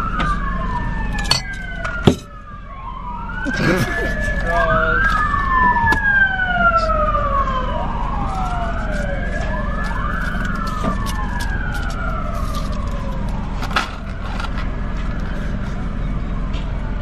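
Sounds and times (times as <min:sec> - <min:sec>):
wailing siren: 0:00.0 - 0:17.0.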